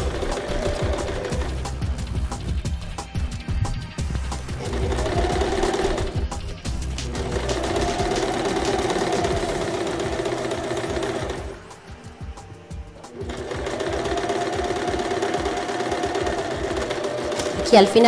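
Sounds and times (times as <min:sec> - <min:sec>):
sewing machine running: 0:00.0 - 0:03.1, 0:04.1 - 0:12.0, 0:13.0 - 0:18.0.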